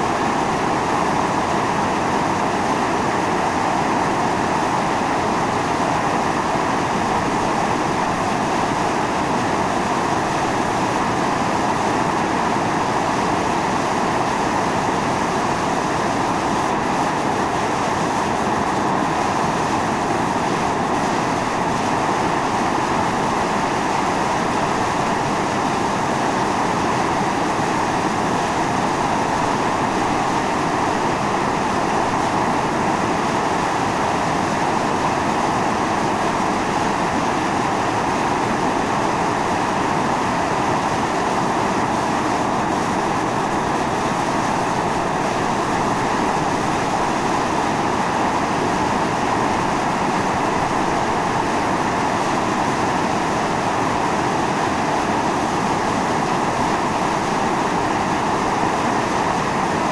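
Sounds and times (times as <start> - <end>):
fumarole venting steam hiss: 0.0 - 59.9.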